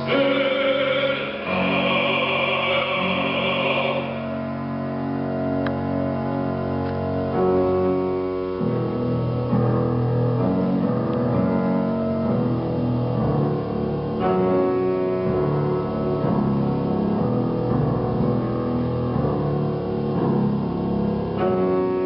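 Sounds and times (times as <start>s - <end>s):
slow instrumental music: 0.0s - 22.0s.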